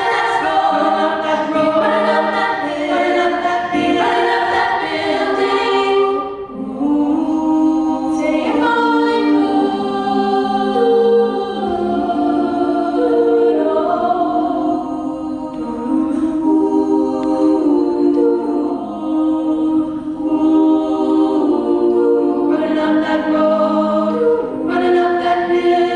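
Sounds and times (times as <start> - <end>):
vocal ensemble singing a cappella: 0.0 - 25.9.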